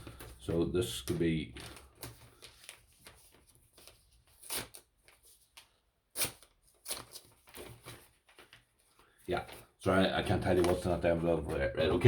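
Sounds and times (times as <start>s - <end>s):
sharp paper crackles: 0.0s - 11.0s
envelope paper rustling: 0.0s - 12.0s.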